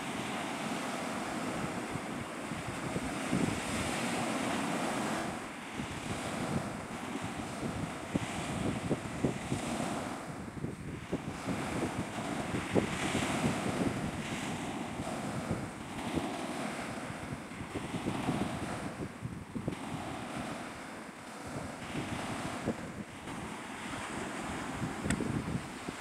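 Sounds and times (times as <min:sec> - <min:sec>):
sea waves washing: 0:00.0 - 0:26.0
wind buffeting microphone: 0:00.0 - 0:26.0.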